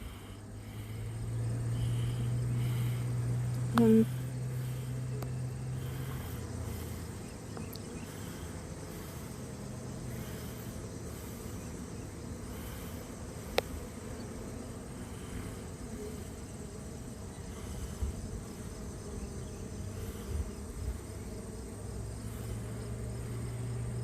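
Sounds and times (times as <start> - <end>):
honeybees humming: 0.0 - 24.0.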